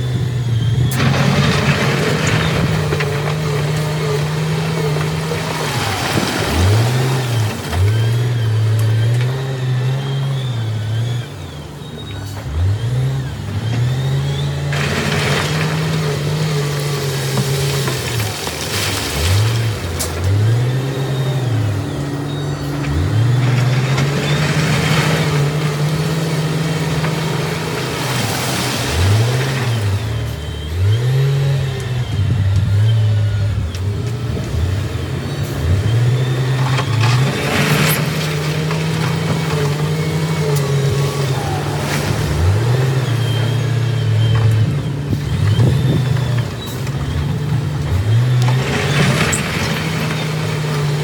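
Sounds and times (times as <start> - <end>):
diesel engine working hard: 0.0 - 51.0.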